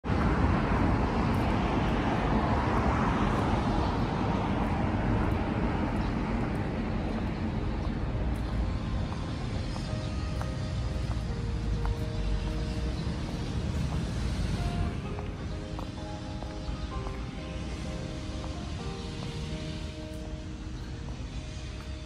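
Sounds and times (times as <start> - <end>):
steady low traffic rumble: 0.0 - 22.0
vehicle passing: 0.0 - 22.0.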